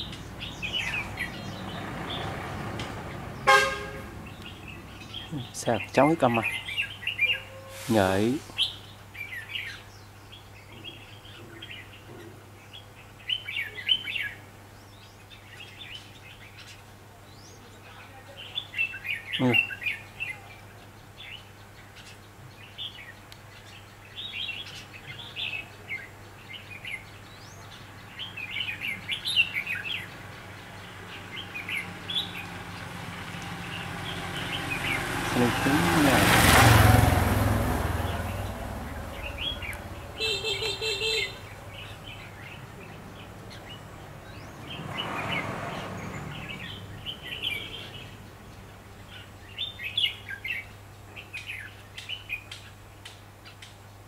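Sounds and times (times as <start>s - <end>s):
birds singing and calling: 0.0s - 54.0s.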